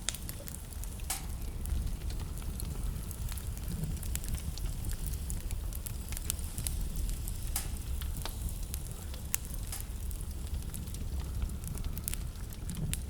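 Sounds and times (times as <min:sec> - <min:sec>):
low fire rumble: 0:00.0 - 0:13.0
wood fire crackling and popping: 0:00.0 - 0:13.0.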